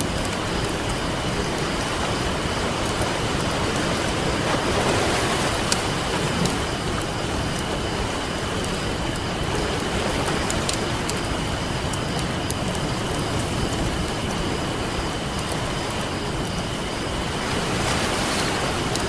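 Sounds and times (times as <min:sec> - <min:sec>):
campfire crackling: 0:00.0 - 0:04.6, 0:05.2 - 0:17.2
ocean surf: 0:00.0 - 0:19.0.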